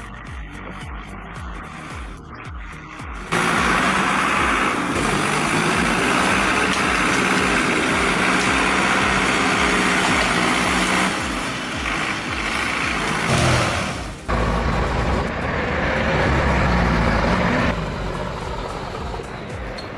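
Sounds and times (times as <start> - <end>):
large machine engine running: 0.0 - 19.9.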